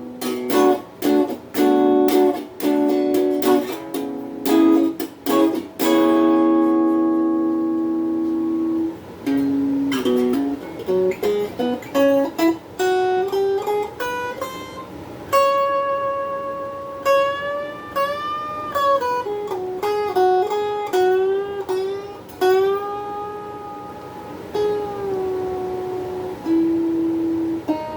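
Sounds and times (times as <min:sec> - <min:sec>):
electric guitar chords: 0:00.0 - 0:27.9
electric guitar melody with bends: 0:00.0 - 0:27.9.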